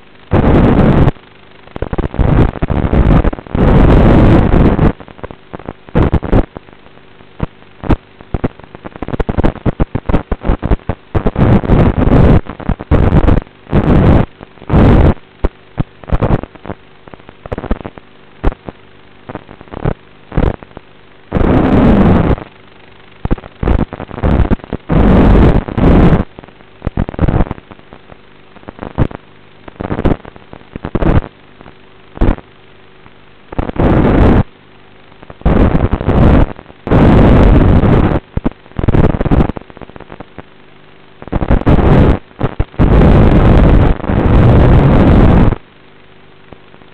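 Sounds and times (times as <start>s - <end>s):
faint electrical hum: 0.0s - 46.9s.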